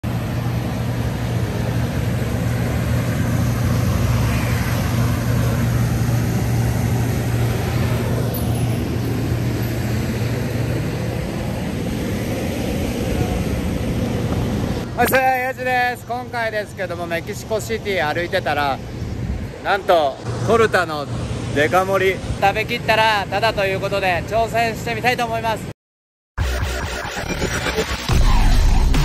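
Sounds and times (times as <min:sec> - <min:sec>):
traffic engine rumble: 0:00.0 - 0:25.4
road noise: 0:00.0 - 0:25.7
vehicles passing: 0:00.0 - 0:25.7.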